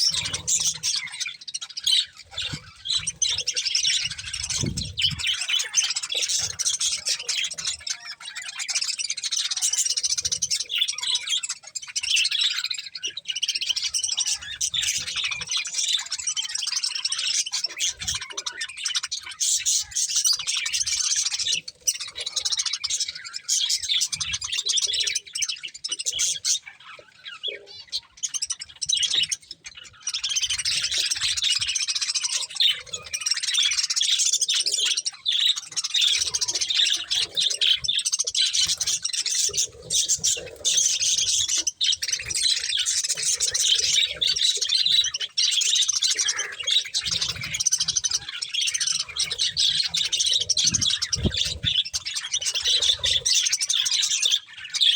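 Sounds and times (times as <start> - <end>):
budgerigars chirping and chattering: 0.0 - 54.9.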